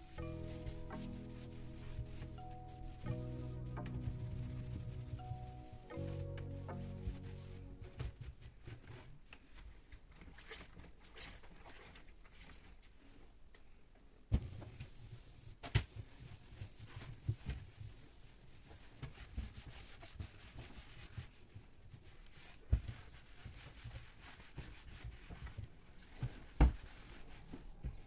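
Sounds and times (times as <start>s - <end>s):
rubbing and shuffling: 0.0s - 9.9s, 14.7s - 28.0s.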